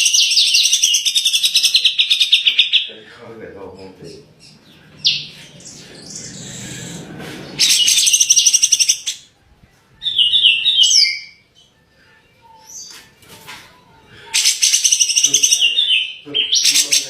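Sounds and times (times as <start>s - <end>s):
songbird singing: 0.0s - 9.4s, 10.0s - 11.8s, 14.3s - 17.0s.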